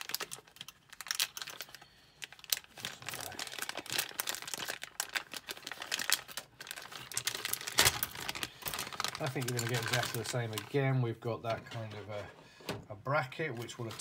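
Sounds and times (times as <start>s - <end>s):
plastic bag crinkling: 0.0s - 12.2s, 13.6s - 14.0s.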